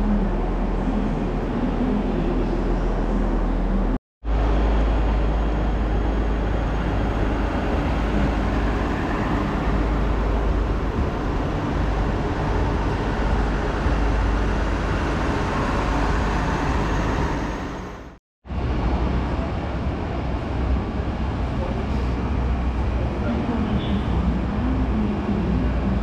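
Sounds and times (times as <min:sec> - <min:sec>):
rail vehicle rumbling: 0:00.0 - 0:26.0.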